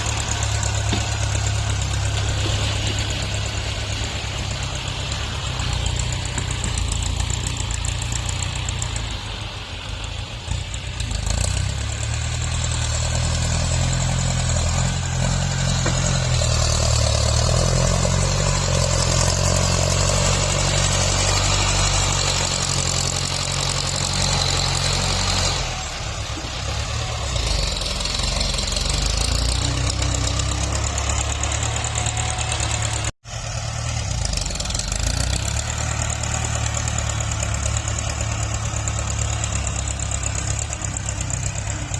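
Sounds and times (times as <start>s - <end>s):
tractor engine working: 0.0s - 41.9s.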